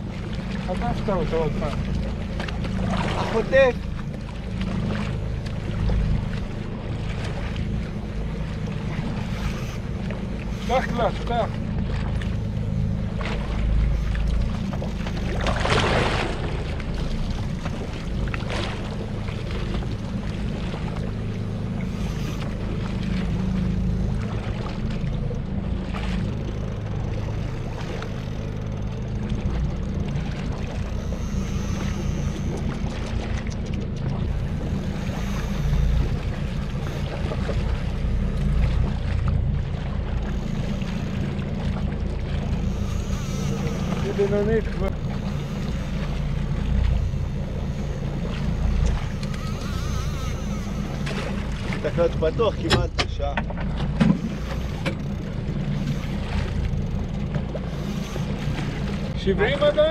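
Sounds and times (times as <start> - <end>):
water noise: 0.0 - 59.9.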